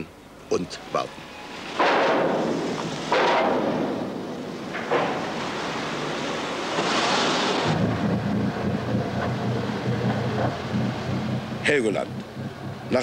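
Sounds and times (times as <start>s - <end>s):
ship engine droning: 0.0s - 13.0s
wind: 0.0s - 13.0s
surf: 1.2s - 13.0s.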